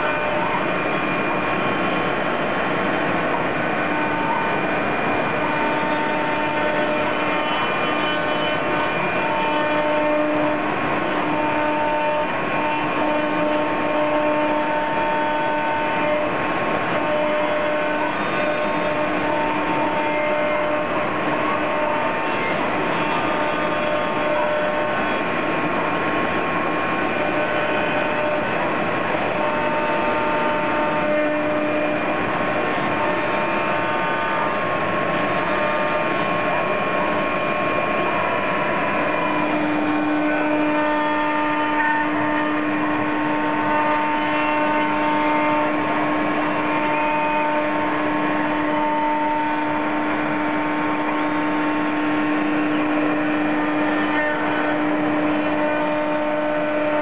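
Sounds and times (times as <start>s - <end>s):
cnc router cutting wood: 0.0s - 57.0s.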